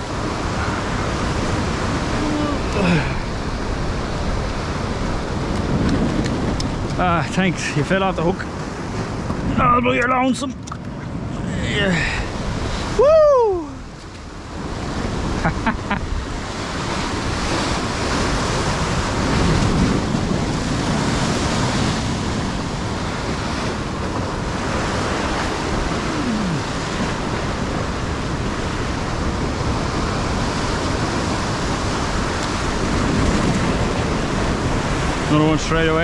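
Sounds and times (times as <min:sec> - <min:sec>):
waves breaking on rocky shore: 0:00.0 - 0:36.0
wind on microphone: 0:00.0 - 0:36.0.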